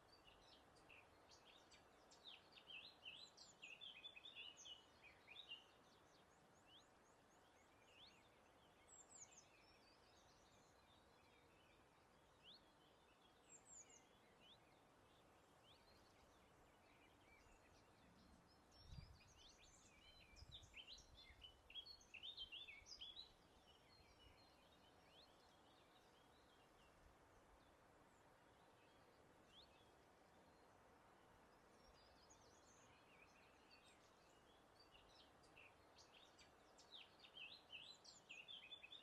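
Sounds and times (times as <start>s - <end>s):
faint hiss of outdoor air: 0.0s - 39.0s
small birds chirping: 0.0s - 39.0s.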